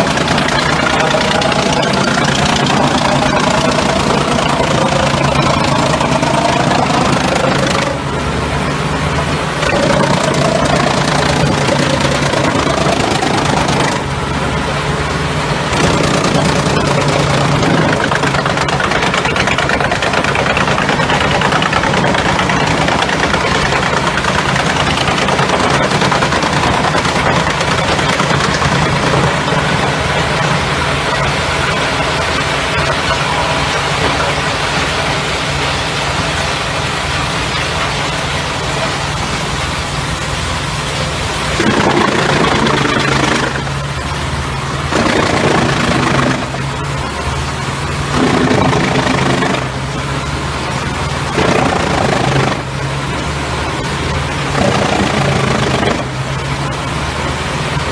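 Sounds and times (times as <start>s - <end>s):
drum chipper rushing: 0.0s - 8.5s, 9.2s - 14.4s, 15.6s - 35.4s, 41.4s - 47.2s, 48.0s - 53.1s, 54.4s - 56.9s
diesel engine humming: 0.0s - 57.9s.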